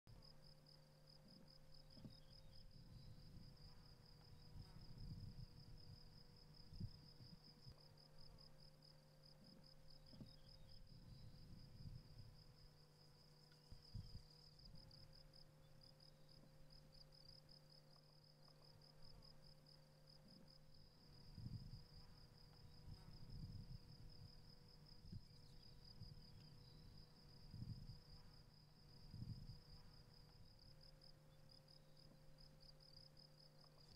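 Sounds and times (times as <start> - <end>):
low steady hum: 0.1 - 33.9.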